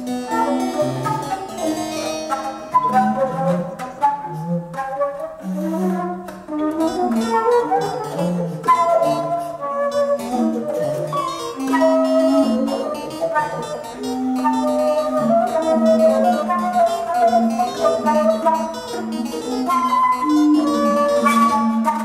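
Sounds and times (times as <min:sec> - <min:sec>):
recorders playing held notes: 0:00.0 - 0:22.0.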